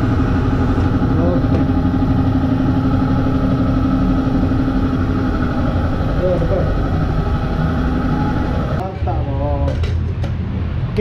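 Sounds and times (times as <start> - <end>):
air blower running: 0.0 - 8.9
steady hum: 0.0 - 11.0.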